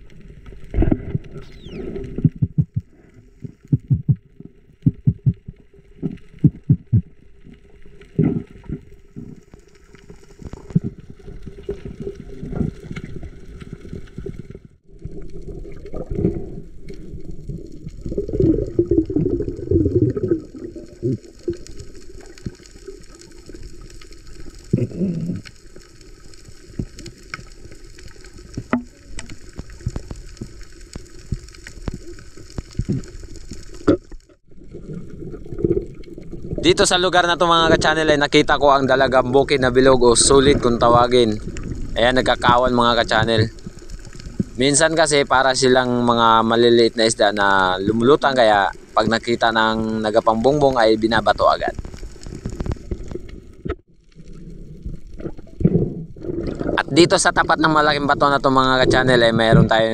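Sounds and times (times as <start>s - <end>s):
gurgling rush of bubbles: 0.0s - 59.9s
underwater sloshing and bubbling: 0.0s - 59.9s.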